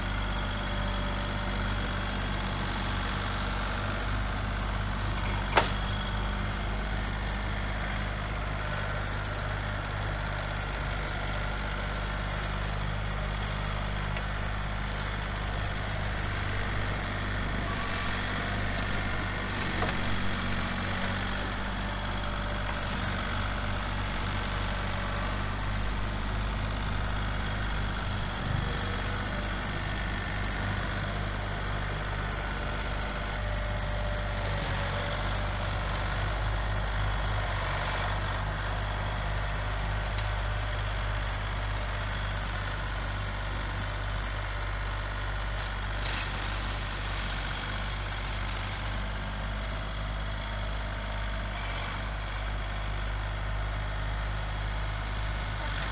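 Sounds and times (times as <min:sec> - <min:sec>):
small tractor engine running: 0:00.0 - 0:55.9.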